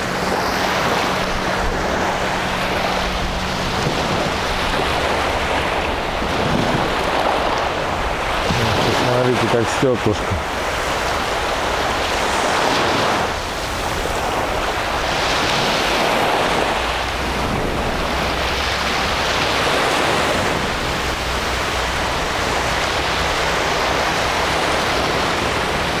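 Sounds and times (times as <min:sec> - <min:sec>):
waves breaking on sandy beach: 0:00.0 - 0:26.0.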